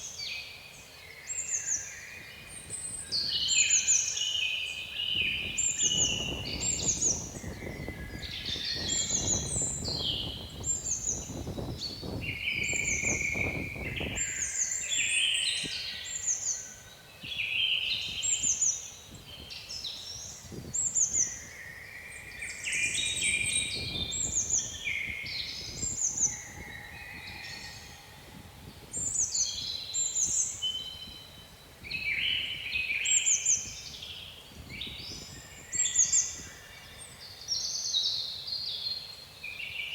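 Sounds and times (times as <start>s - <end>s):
songbirds singing and chirping: 0.0s - 39.9s
wind rumbling on microphone: 2.1s - 4.0s, 4.9s - 16.2s, 17.2s - 37.2s.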